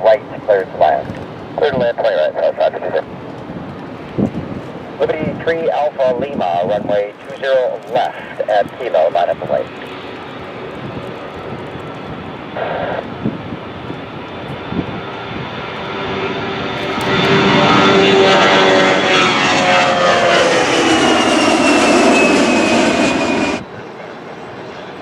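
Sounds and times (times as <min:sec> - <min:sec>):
airliner engines on takeoff: 0:00.0 - 0:25.0.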